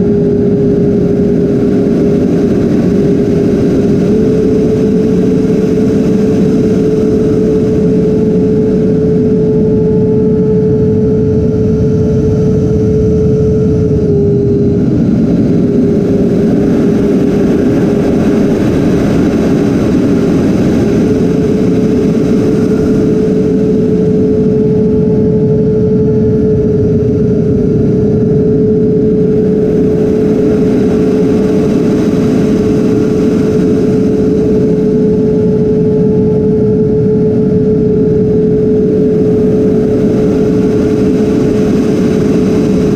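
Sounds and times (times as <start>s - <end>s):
electric ducted fan whine: 0.0s - 42.9s.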